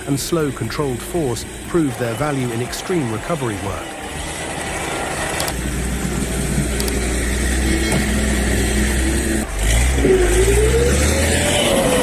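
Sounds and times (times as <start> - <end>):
diesel engine under load: 0.0 - 12.0
whining pitch: 0.0 - 12.0.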